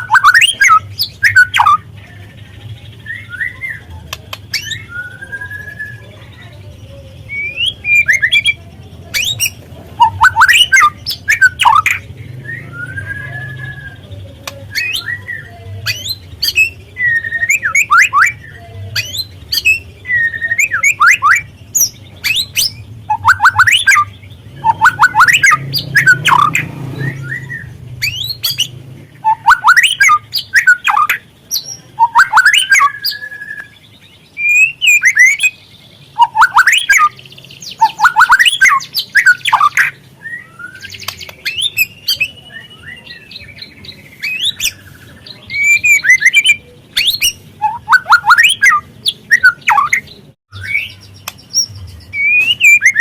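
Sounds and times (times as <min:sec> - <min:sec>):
bird chirping and twittering: 0:00.0 - 0:53.0.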